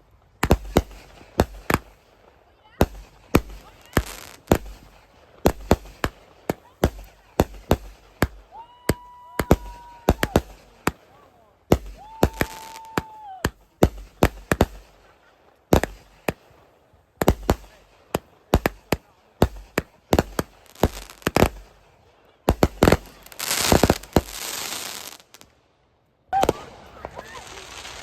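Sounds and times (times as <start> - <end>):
fireworks crackling hiss: 0.0 - 25.6, 26.4 - 28.0
firecracker bangs: 0.4 - 2.2, 2.8 - 15.1, 15.7 - 16.5, 17.2 - 21.8, 22.4 - 25.4.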